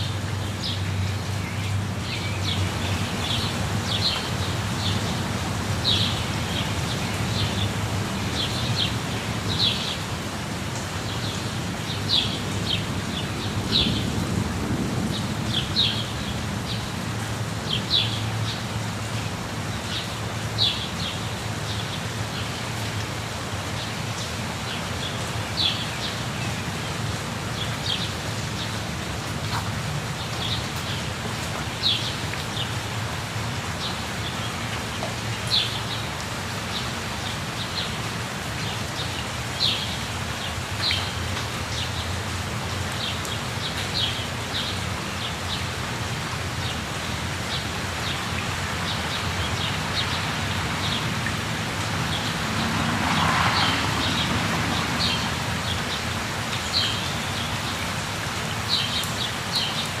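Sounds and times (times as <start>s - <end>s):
falling water rushing: 0.0s - 60.0s.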